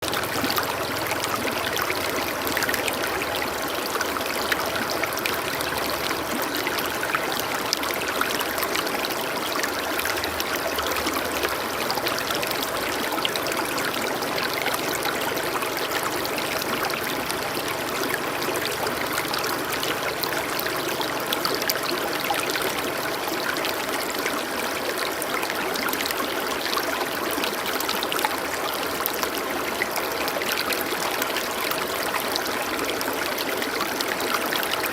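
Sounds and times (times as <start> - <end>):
stream flowing and trickling: 0.0 - 34.9.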